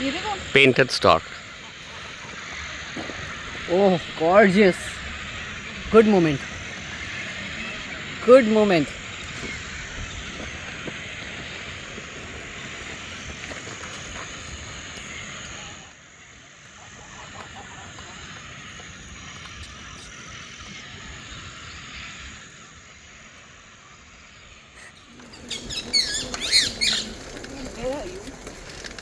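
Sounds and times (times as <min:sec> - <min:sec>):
frogs croaking chorus: 0:00.0 - 0:29.0.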